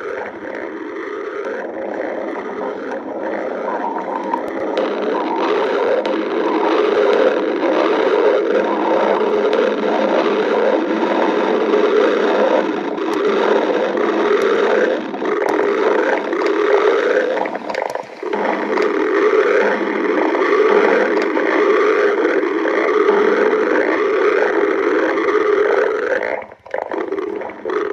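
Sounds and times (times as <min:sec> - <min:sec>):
stomach growling: 0:00.0 - 0:27.9.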